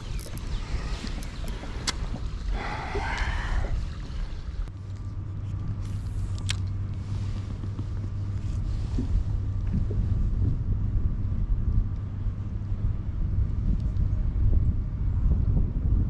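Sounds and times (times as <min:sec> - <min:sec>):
wind buffeting microphone: 0:00.0 - 0:04.7, 0:06.7 - 0:16.0.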